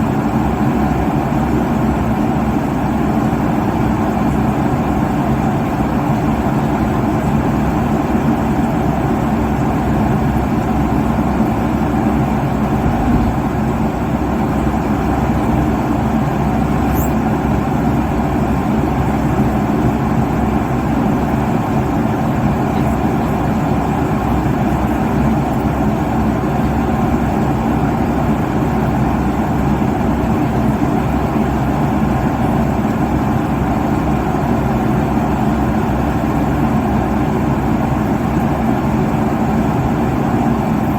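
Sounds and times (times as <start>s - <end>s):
jet airliner cabin noise: 0.0s - 34.4s.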